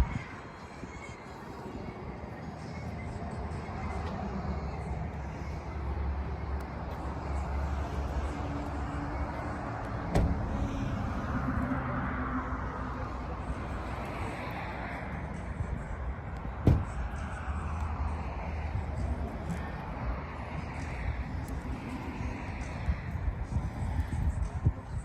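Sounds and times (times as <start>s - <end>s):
vehicle engine low rumble: 0.0s - 25.0s.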